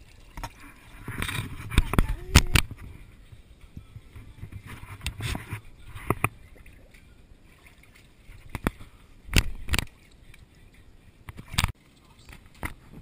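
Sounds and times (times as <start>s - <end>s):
water sloshing in a pool: 0.0s - 13.0s
water splashes and knocks: 0.0s - 13.0s.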